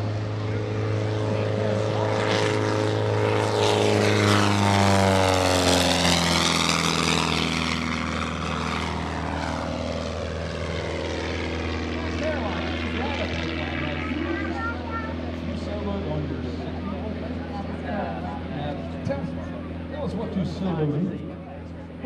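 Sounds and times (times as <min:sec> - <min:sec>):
propeller plane flying past: 0:00.0 - 0:22.0.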